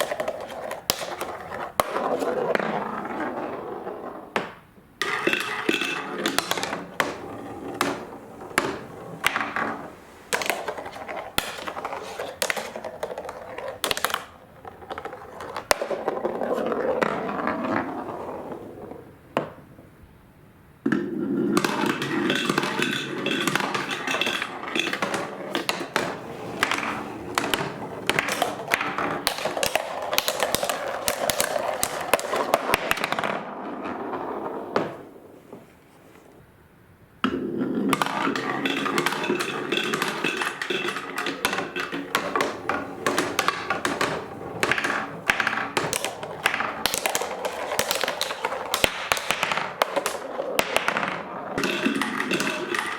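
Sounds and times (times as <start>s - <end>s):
marbles rolling down wooden run: 0.0s - 19.1s, 21.2s - 35.0s, 37.2s - 52.9s.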